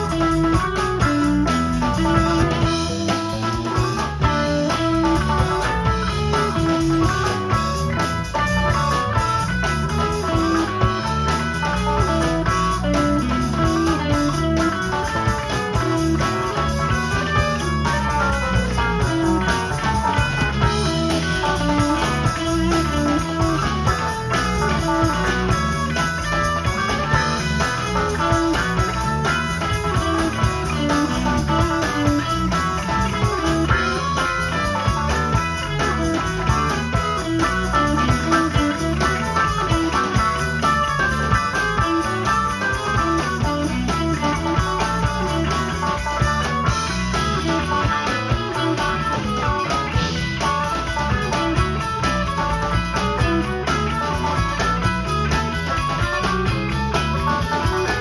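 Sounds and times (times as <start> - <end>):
drum kit: 0.0 - 58.0
electric guitar: 0.0 - 58.0
keyboard: 0.0 - 58.0.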